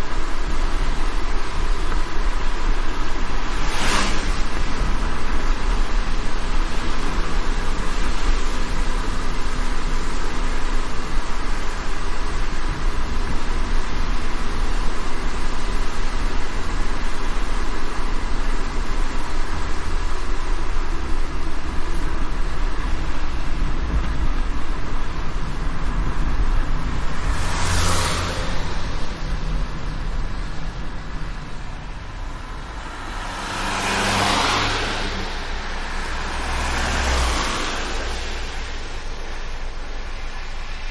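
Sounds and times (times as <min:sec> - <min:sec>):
car road and engine rumble: 0:00.0 - 0:40.9
rain and wet tyres hissing: 0:00.0 - 0:40.9.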